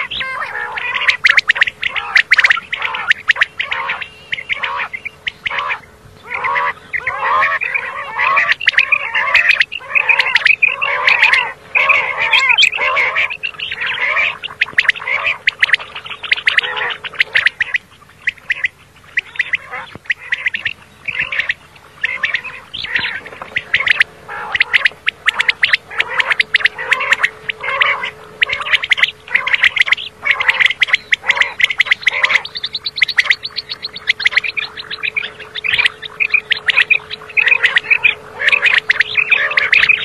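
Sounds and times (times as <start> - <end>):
faint steady hum: 0.0 - 40.0
quail calling: 0.0 - 40.0.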